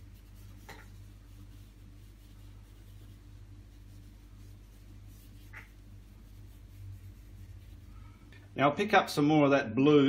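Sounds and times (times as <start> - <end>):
brush swishing on canvas: 0.0 - 8.4
low electrical hum: 0.0 - 10.0.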